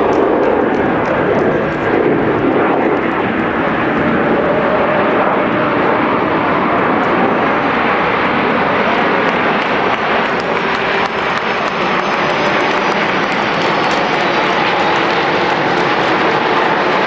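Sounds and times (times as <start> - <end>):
jet aircraft flying overhead: 0.0 - 17.0.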